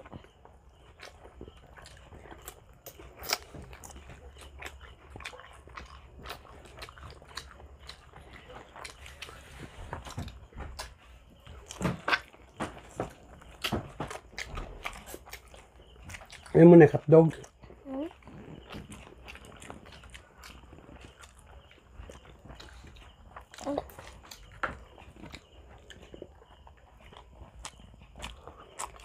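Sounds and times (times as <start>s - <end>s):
people chewing meat: 0.0s - 29.0s.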